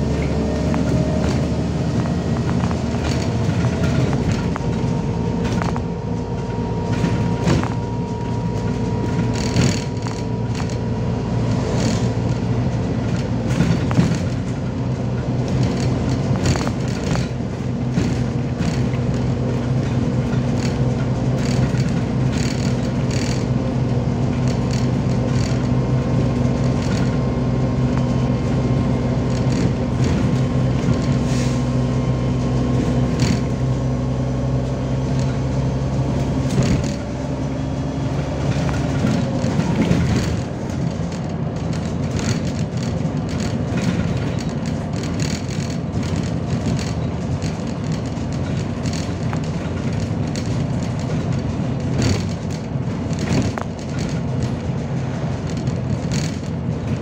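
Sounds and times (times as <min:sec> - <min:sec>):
bus engine drone: 0:00.0 - 0:57.0
clicks and rattles in bus cabin: 0:00.0 - 0:57.0.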